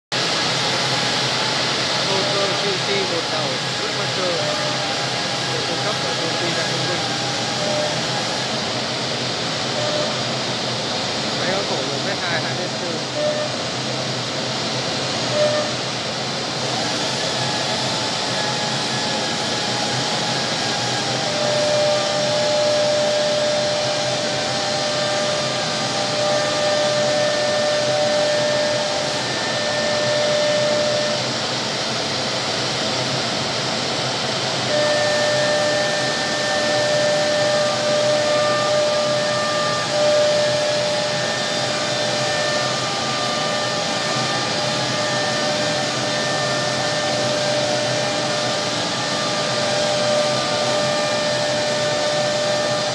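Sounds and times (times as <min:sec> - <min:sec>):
high machine whine: 0:00.1 - 0:52.9
router machine running: 0:00.2 - 0:52.9.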